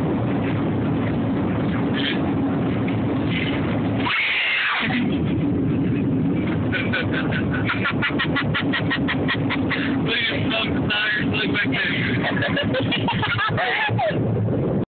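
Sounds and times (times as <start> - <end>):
car cabin road and engine noise: 0.0 - 14.9.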